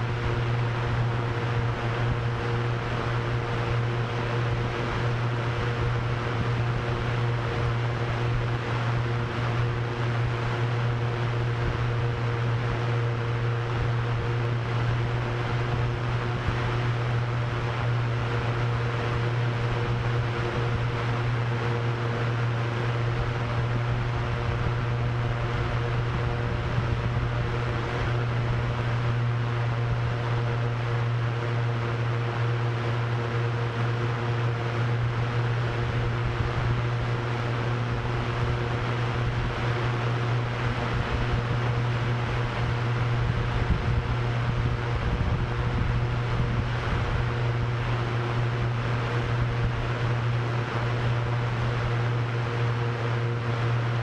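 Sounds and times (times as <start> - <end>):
drone propellers humming: 0.0 - 54.0
gusting wind: 0.0 - 54.0.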